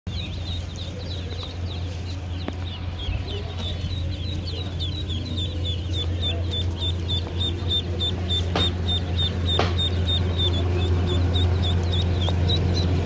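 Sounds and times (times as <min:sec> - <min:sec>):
ducklings peeping: 0:00.1 - 0:13.0
steady low hum: 0:00.1 - 0:13.0.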